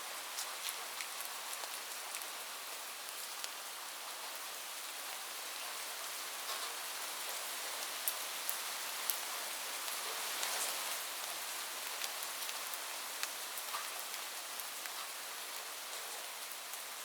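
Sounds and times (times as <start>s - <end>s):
rain falling on a roof: 0.0s - 17.0s.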